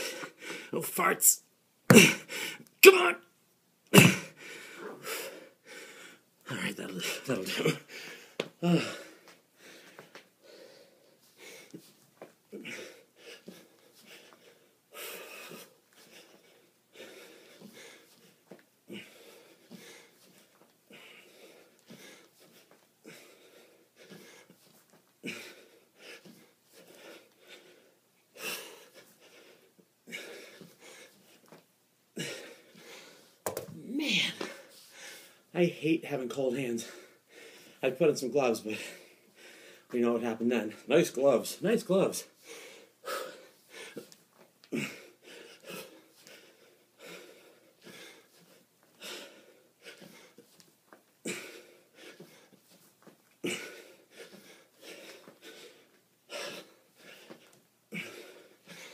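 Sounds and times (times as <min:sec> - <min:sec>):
man breathing hard and wheezing: 0:00.0 - 0:00.8, 0:01.9 - 0:02.7, 0:04.0 - 0:06.3, 0:07.0 - 0:35.5, 0:36.8 - 0:37.8, 0:38.7 - 0:39.9, 0:42.3 - 0:50.6, 0:51.2 - 0:58.9.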